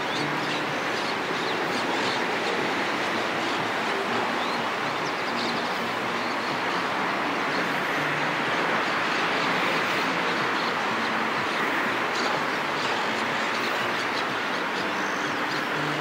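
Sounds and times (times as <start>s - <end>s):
distant traffic hum: 0.0s - 16.0s
river water rushing: 0.0s - 16.0s.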